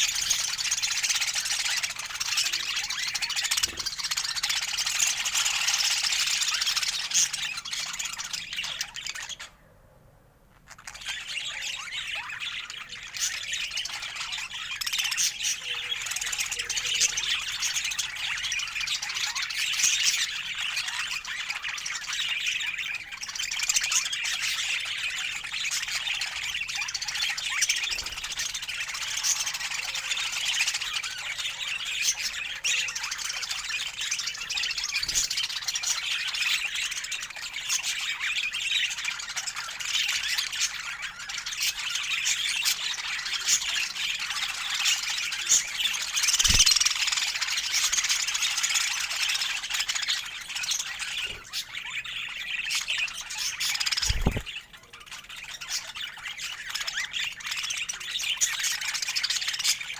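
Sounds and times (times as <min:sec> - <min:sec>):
budgerigars chattering and warbling: 0:00.0 - 0:09.6, 0:10.6 - 0:59.9.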